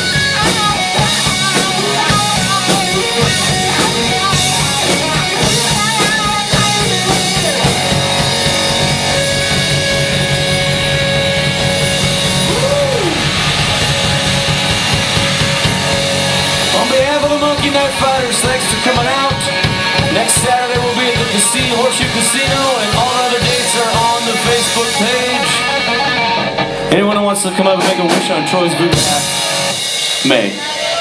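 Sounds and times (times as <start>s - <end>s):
drum kit: 0.0s - 31.0s
electric bass: 0.0s - 31.0s
electric guitars: 0.0s - 31.0s
lead vocals: 0.0s - 31.0s.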